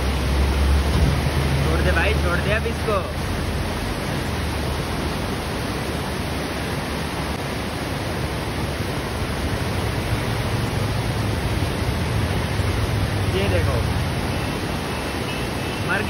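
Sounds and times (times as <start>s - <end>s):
fast-flowing river rushing: 0.0s - 16.0s.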